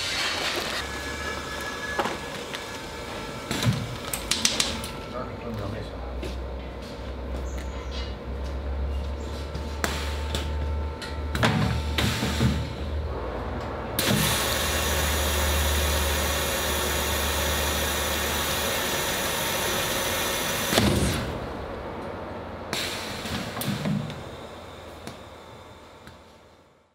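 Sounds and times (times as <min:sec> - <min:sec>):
machine humming: 0:00.0 - 0:07.3, 0:08.2 - 0:26.1.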